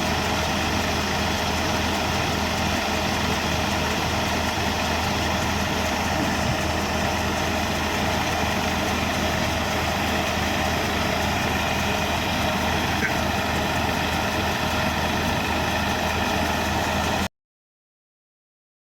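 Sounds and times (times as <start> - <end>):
threshing machine rushing: 0.0 - 17.3
tractor engine running: 0.0 - 17.3.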